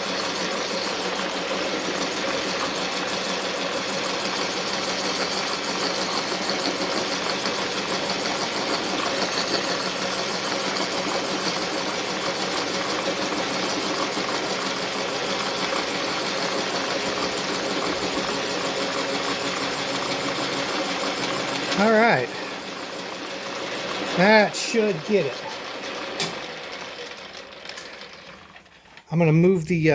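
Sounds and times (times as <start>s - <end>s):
milling machine cutting metal: 0.0s - 28.6s.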